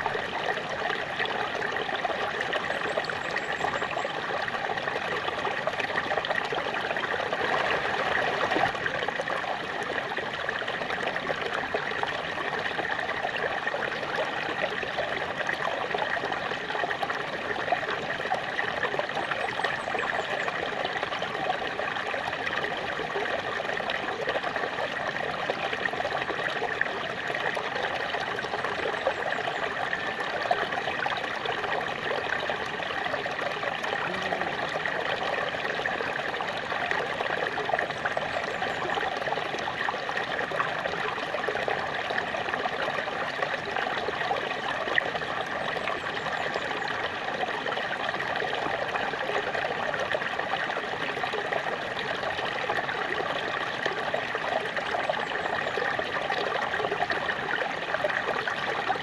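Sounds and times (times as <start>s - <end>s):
small waterfall splashing: 0.0s - 59.0s.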